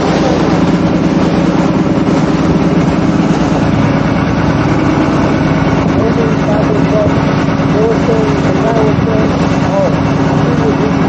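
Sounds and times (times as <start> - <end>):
boat engine droning: 0.0 - 11.0
water rushing in wake: 0.0 - 11.0.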